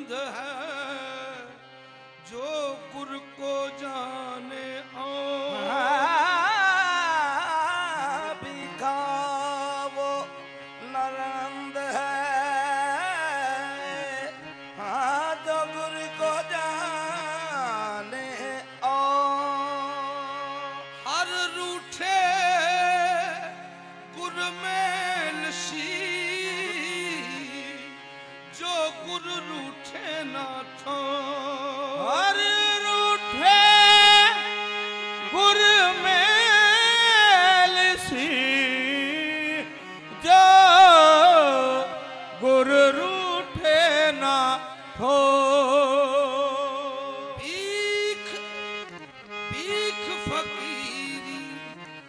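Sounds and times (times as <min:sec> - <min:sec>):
man singing ornamented phrases: 0:00.0 - 0:01.6, 0:02.2 - 0:52.0
harmoniums holding notes: 0:00.0 - 0:52.0.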